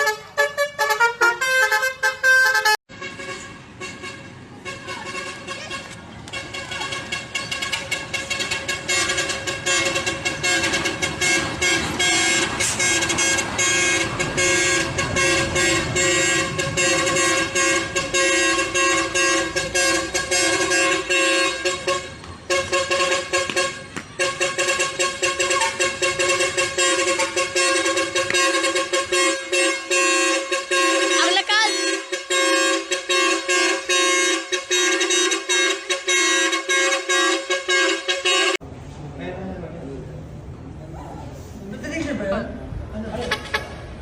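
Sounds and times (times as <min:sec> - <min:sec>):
truck horns honking a tune: 0:00.0 - 0:38.6, 0:43.1 - 0:44.0.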